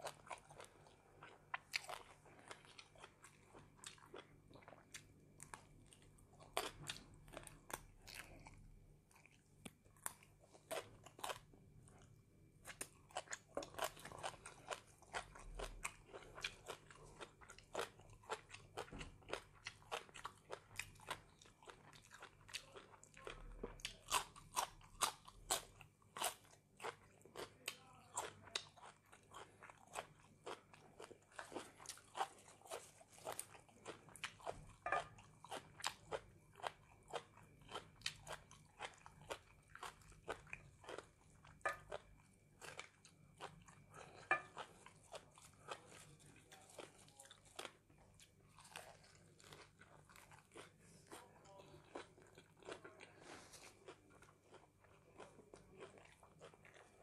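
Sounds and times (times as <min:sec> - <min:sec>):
crunching raw vegetables: 0:00.0 - 0:57.0.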